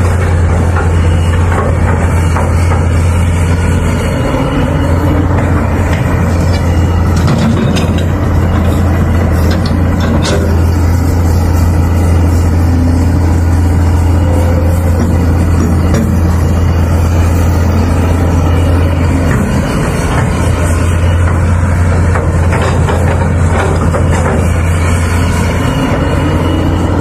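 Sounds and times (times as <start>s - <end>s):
excavator diesel engine droning: 0.0s - 27.0s.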